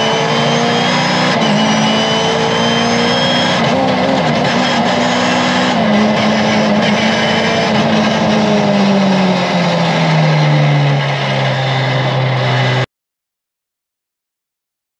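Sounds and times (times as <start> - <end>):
car engine from inside cabin: 0.0 - 12.8
road and tyre noise: 0.0 - 12.9.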